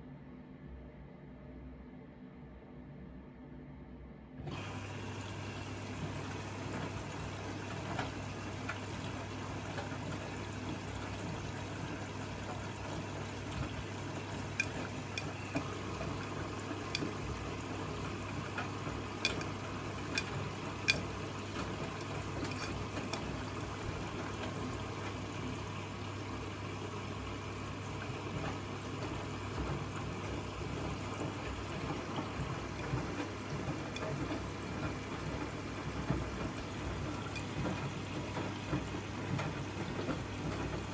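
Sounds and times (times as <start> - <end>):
washing machine low hum: 4.4 - 40.9
water sloshing in drum: 4.6 - 40.9.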